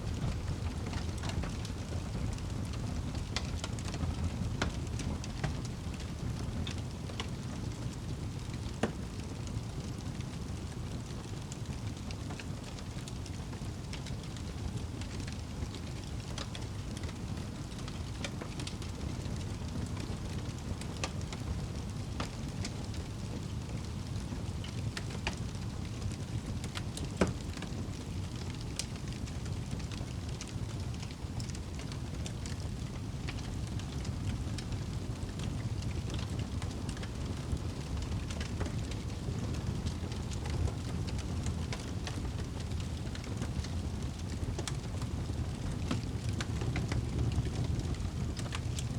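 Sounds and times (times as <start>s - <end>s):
fire crackling and popping: 0.0s - 48.9s
flames rushing in fireplace: 0.0s - 48.9s.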